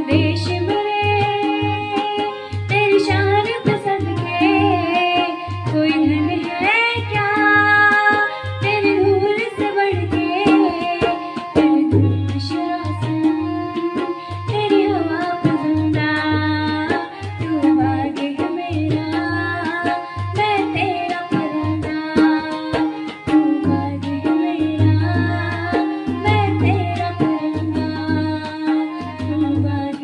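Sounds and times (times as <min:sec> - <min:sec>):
tabla and drum beat: 0:00.0 - 0:30.0.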